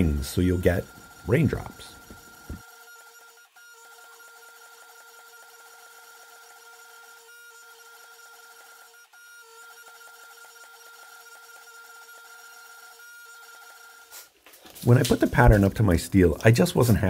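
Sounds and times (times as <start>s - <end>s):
hydraulic press whine: 0.0s - 14.1s.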